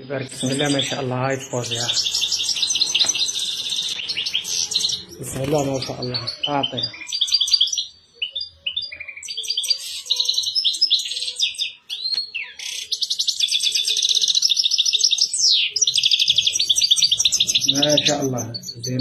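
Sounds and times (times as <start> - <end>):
fast bird trill: 0.0 - 19.0
finch twittering song: 0.0 - 19.0.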